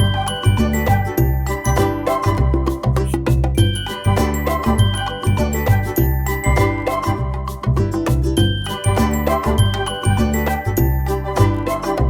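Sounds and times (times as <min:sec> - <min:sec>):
background music with steady beat: 0:00.0 - 0:12.0
bass line: 0:00.0 - 0:12.0
bell-like chimes: 0:00.0 - 0:12.0.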